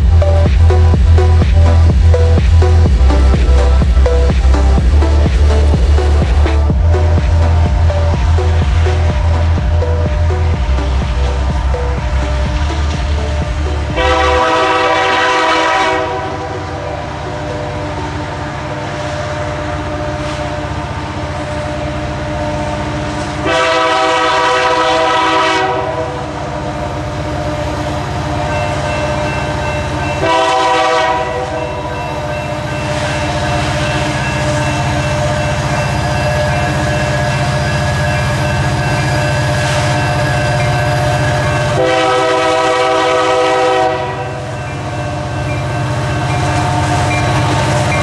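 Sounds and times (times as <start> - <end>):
low rumble of locomotive: 0.0 - 48.0
locomotive air horn blasts: 6.8 - 27.8, 28.4 - 48.0.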